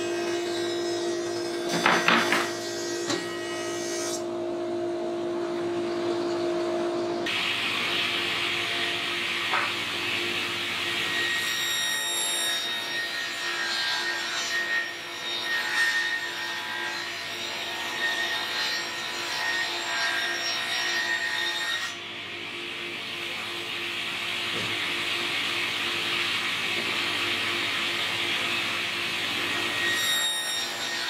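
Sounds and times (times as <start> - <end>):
table saw cutting wood: 0.0 - 31.0
table saw running: 0.0 - 31.0.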